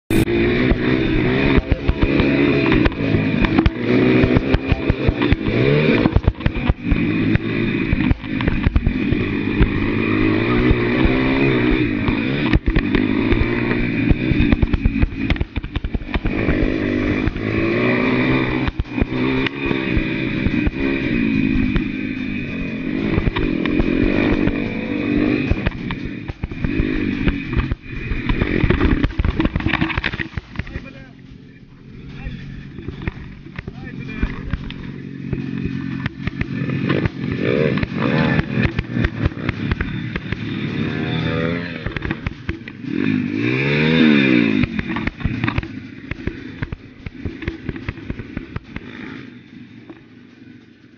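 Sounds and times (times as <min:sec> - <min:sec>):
small motorbike engine revving: 0:00.0 - 0:50.9
knocks and rattles: 0:00.1 - 0:49.2.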